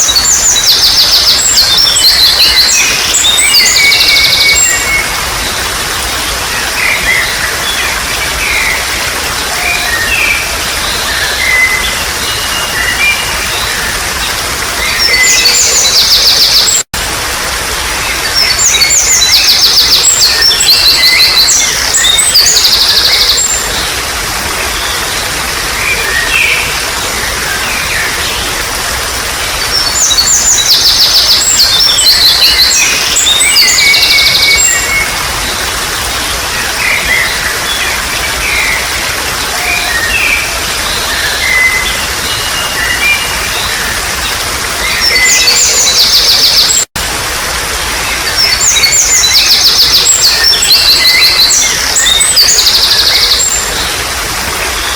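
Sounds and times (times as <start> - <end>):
bird song of rapid high notes: 0.0 - 16.9, 17.8 - 46.9, 47.9 - 54.9
flowing water: 0.0 - 54.9.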